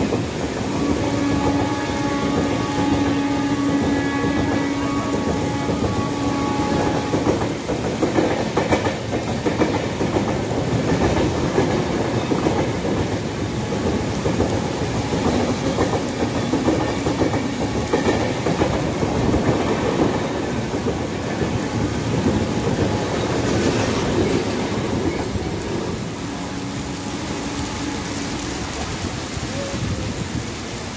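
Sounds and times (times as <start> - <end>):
train wheels clattering over rail joints: 0.0 - 26.2.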